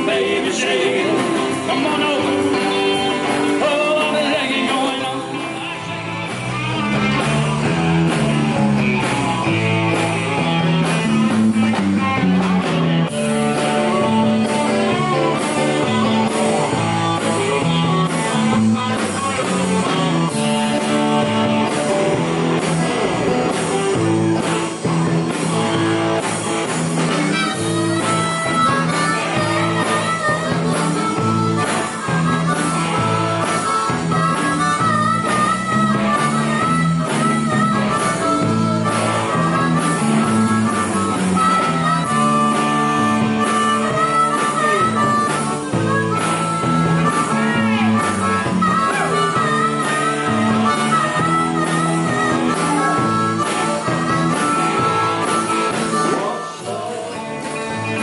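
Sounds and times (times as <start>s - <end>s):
amplified harmonica: 0.0s - 58.0s
live country-rock band: 0.0s - 58.0s.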